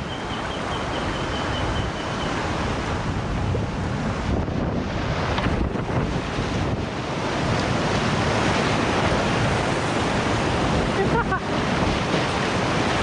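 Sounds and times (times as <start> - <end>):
river rapid rushing: 0.0 - 13.0.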